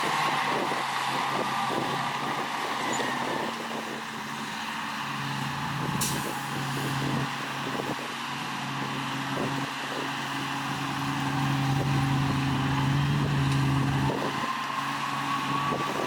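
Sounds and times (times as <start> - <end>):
diesel earthmoving machinery running: 0.0 - 16.0.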